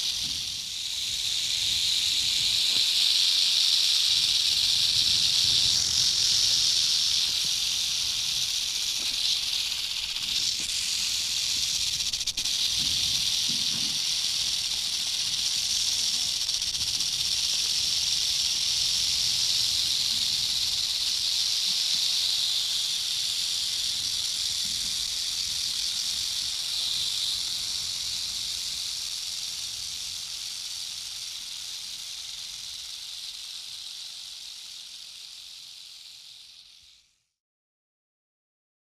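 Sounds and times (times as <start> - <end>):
rattlesnake tail rattle buzzing: 0.0 - 37.3.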